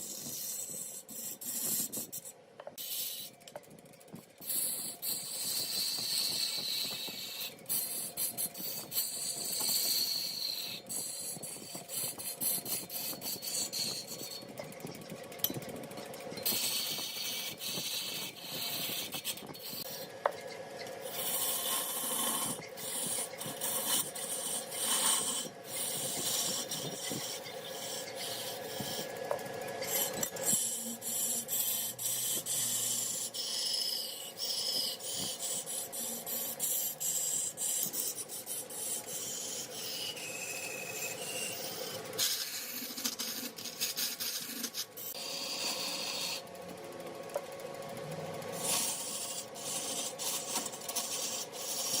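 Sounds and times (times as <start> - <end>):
tool rasping on spinning wood: 0.0 - 47.8, 48.4 - 52.0
lathe humming: 3.0 - 52.0.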